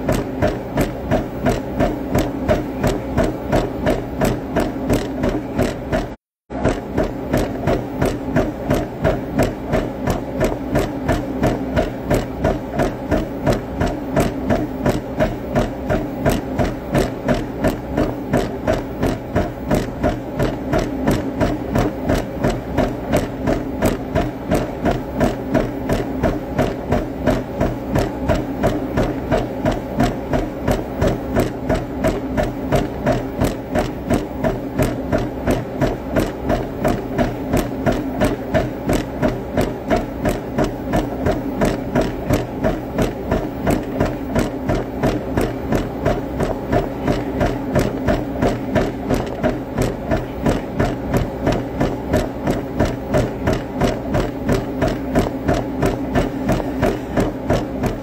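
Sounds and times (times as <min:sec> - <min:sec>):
fast even knocking: 0:00.0 - 0:58.0
steady hum: 0:00.0 - 0:58.0.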